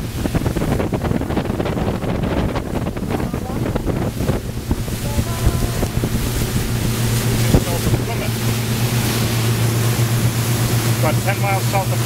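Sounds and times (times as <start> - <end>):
boat engines droning: 0.0 - 12.0
water rushing past hull: 0.0 - 12.0
wind buffeting microphone: 0.0 - 12.0.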